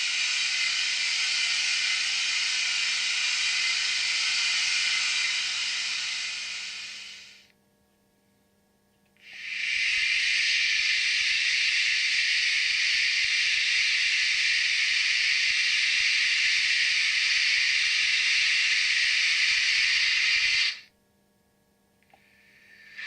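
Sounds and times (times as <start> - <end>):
model locomotive steam hiss: 0.0 - 7.5, 9.2 - 20.9, 22.3 - 23.0.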